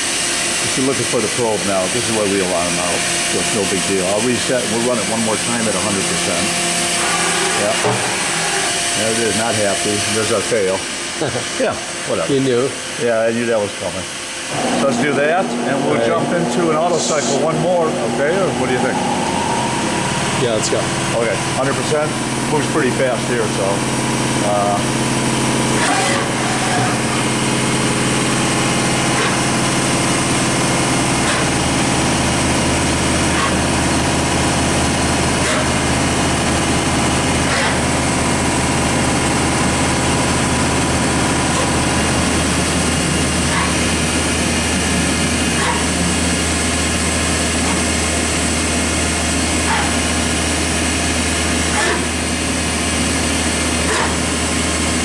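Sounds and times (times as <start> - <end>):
machine hum and whine: 0.0 - 55.0.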